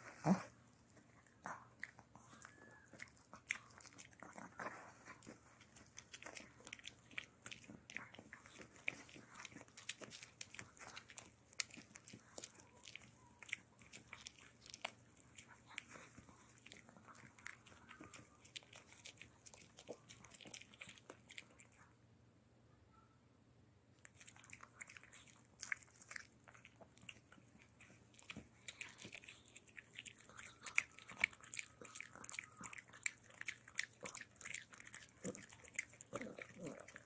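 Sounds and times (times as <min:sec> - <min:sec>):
dog gnawing chew stick: 0:00.2 - 0:21.8, 0:24.1 - 0:37.0.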